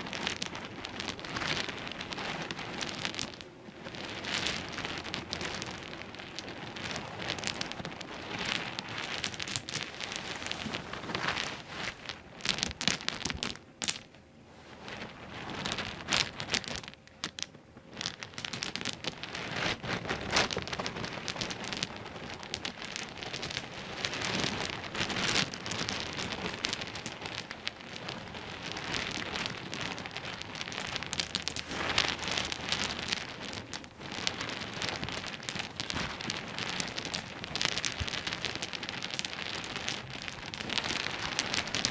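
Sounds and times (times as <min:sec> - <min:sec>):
pebbles knocking and clattering: 0:00.0 - 0:41.9.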